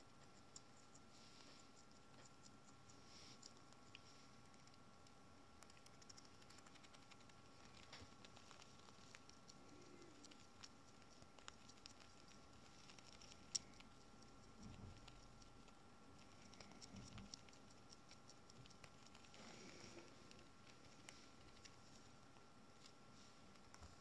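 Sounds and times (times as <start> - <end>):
small rodent rustling in hand: 0.0 - 24.0.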